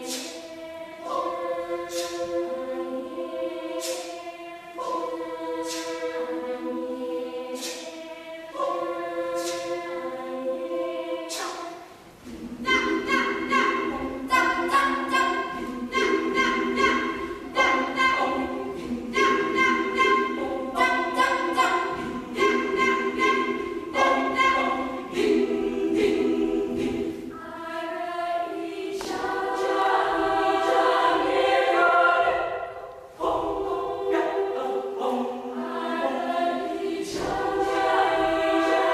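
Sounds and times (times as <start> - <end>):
choir singing in parts: 0.0 - 38.9.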